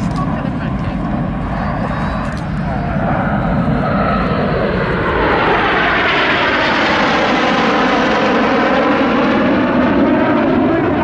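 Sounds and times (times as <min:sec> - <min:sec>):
jets roaring past: 0:00.0 - 0:11.0.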